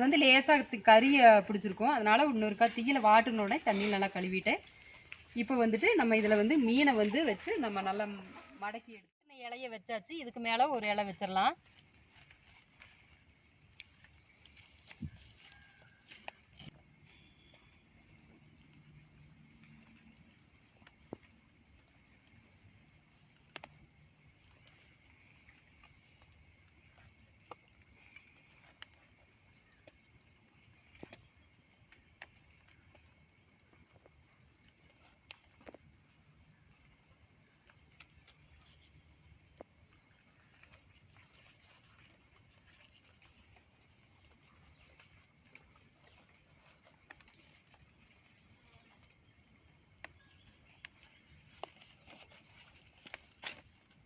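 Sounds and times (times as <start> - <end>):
high-pitched insect chorus: 0.0 - 9.0, 10.5 - 54.0.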